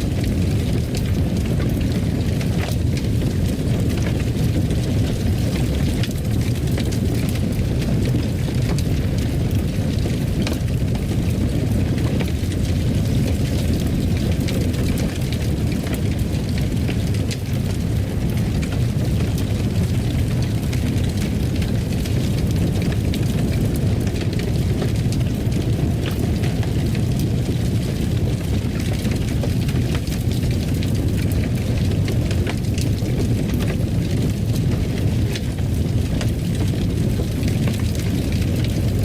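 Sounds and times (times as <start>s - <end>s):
burning wood rumble: 0.0s - 39.0s
fire crackles and pops: 0.0s - 39.0s.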